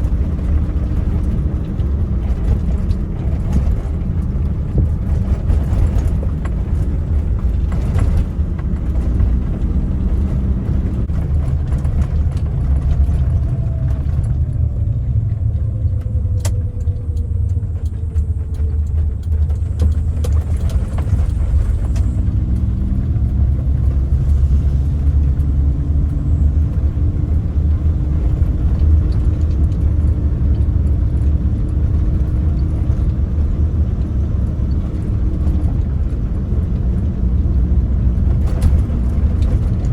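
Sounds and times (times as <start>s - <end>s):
car engine running: 0.0s - 39.9s
heavy low rumble: 0.0s - 39.9s.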